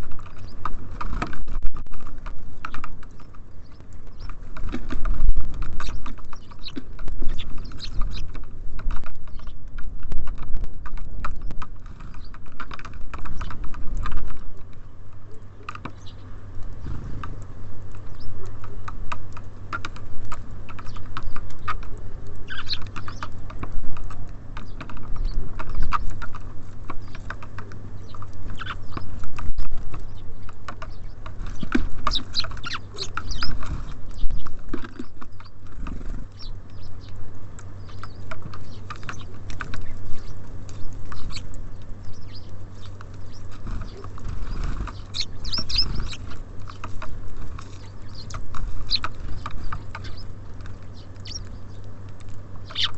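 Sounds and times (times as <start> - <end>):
birds pecking and tapping: 0.0 - 52.9
steady low hum: 0.0 - 52.9.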